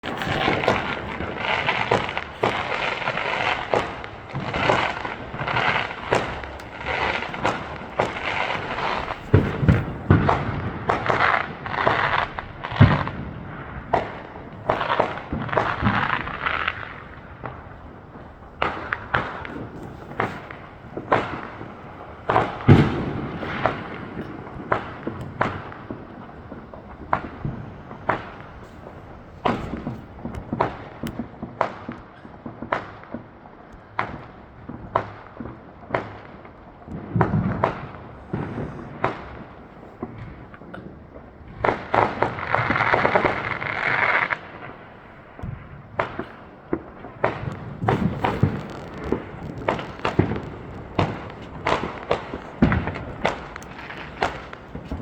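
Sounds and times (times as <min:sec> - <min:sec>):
fireworks rushing burst: 0:00.0 - 0:31.1, 0:37.0 - 0:55.0
fireworks banging: 0:00.0 - 0:55.0.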